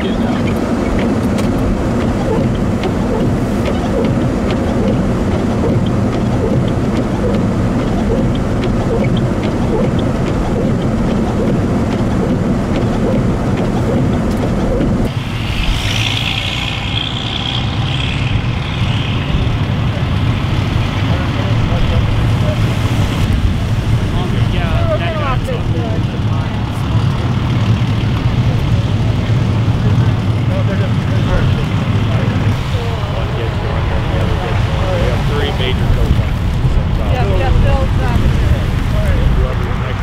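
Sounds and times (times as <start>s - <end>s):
vehicle engines idling: 0.0s - 40.0s.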